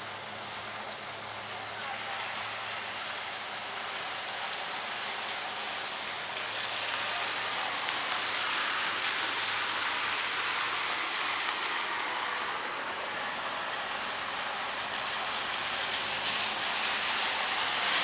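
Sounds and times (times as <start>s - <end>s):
rain hiss on street: 0.0s - 18.0s
tyres swishing through water: 0.1s - 18.0s.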